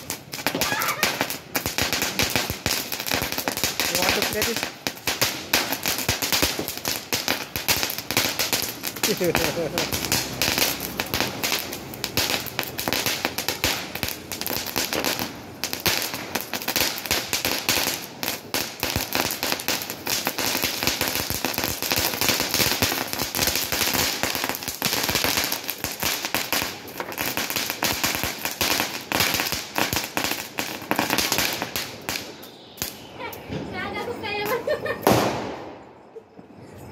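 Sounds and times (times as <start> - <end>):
firecrackers popping: 0.0 - 36.8.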